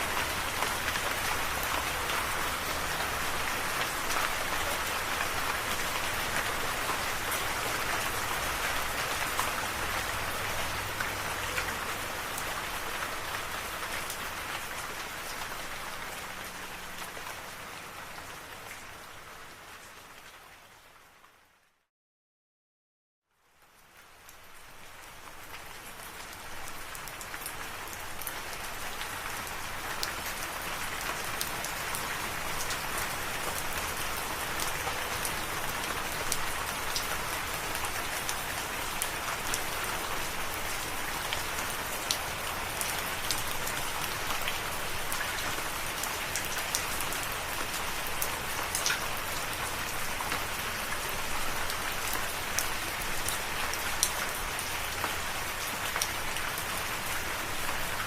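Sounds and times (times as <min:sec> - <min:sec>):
steady rain: 0:00.0 - 0:21.9, 0:23.3 - 0:58.0.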